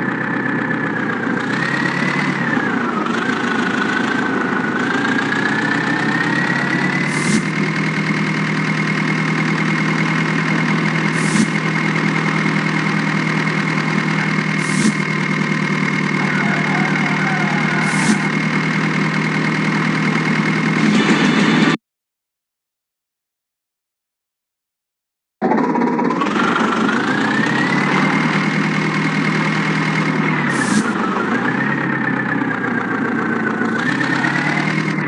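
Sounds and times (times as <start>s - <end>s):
diesel engine running: 0.0s - 21.8s, 25.4s - 35.0s.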